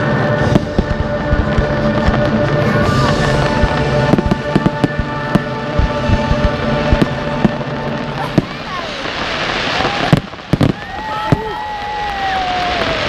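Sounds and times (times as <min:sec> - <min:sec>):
music playing: 0:00.0 - 0:11.3
fireworks banging and crackling: 0:00.0 - 0:13.0.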